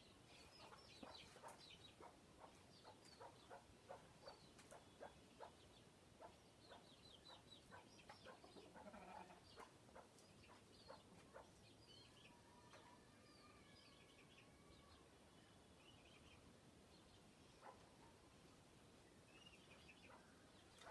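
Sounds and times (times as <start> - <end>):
chickens calling faintly: 0.0 - 20.9.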